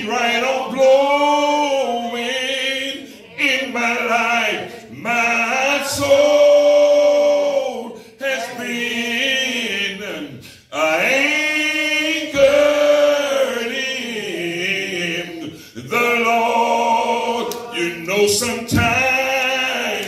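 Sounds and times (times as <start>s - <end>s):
man singing gospel song: 0.0s - 20.0s.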